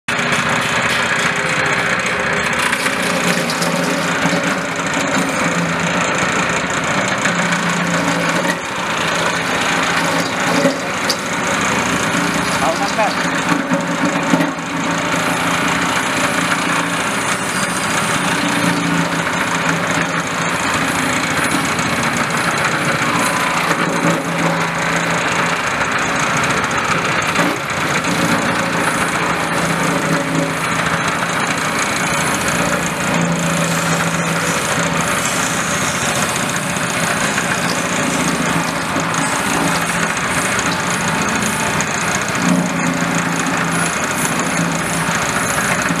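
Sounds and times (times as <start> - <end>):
small petrol engine running: 0.1 - 46.0.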